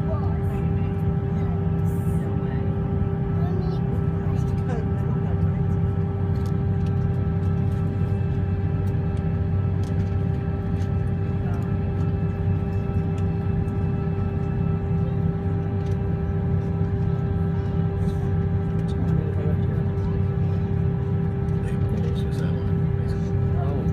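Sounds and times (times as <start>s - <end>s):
engine whine: 0.0s - 23.9s
jet engine and cabin rumble: 0.0s - 23.9s.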